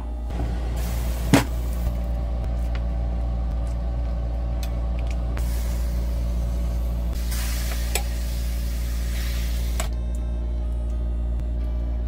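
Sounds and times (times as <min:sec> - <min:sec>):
low machine hum with tones: 0:00.0 - 0:12.0.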